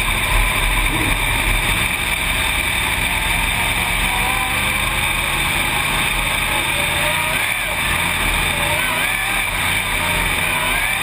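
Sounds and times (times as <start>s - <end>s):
race car engine running hard: 0.0s - 11.0s.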